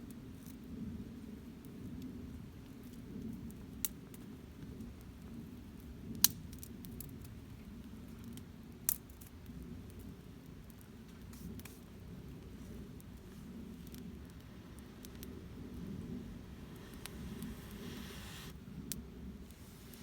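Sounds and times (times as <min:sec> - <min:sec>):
faint fire crackles: 0:00.0 - 0:20.0
campfire rumbling: 0:02.3 - 0:20.0.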